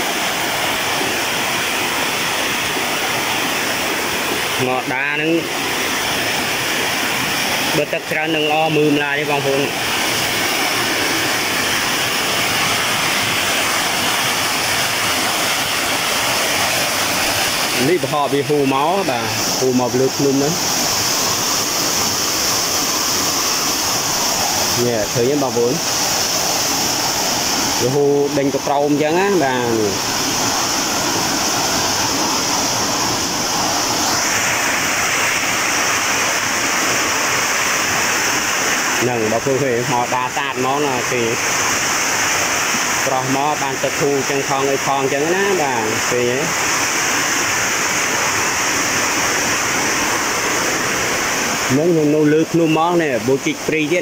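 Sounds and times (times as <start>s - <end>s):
waterfall rushing over boulders: 0.0s - 54.0s.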